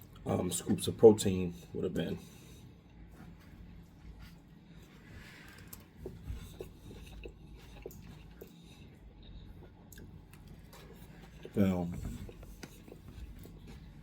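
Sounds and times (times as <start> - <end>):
man chewing food: 1.5 - 14.0.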